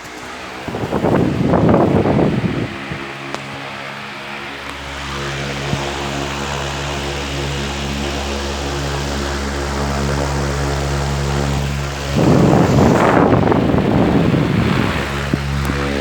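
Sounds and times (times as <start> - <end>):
fan air rushing: 0.0 - 16.0
fan motor hum: 0.0 - 16.0.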